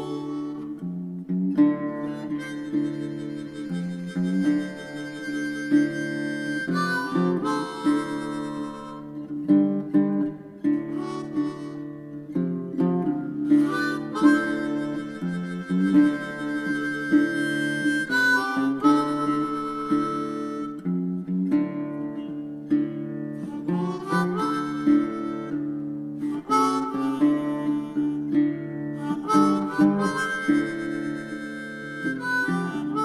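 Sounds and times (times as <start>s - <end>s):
harmonica playing held notes: 0.0s - 1.0s, 1.8s - 10.0s, 10.6s - 21.5s, 23.4s - 33.0s
acoustic guitar: 0.0s - 33.0s.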